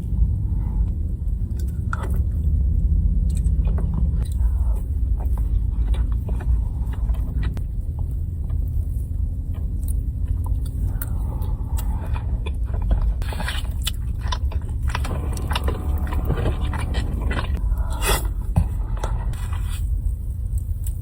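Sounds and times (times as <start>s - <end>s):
steady low rumble: 0.0s - 21.0s
biting and chewing crunches: 1.4s - 21.0s.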